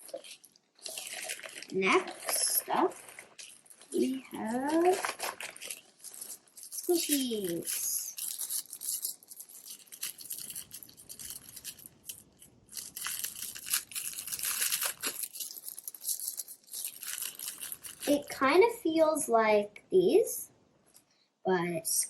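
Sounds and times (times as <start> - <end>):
plastic packaging crinkling: 0.0 - 18.3.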